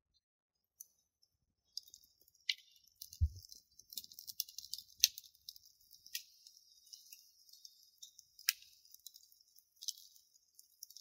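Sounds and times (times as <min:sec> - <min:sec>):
fire crackling and popping: 0:00.8 - 0:11.0.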